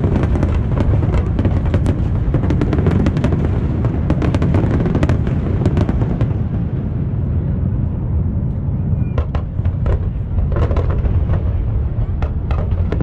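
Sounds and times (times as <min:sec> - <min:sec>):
fireworks crackling bursts: 0:00.0 - 0:06.7, 0:09.2 - 0:13.0
fireworks shells booming: 0:00.0 - 0:06.9, 0:09.1 - 0:13.0.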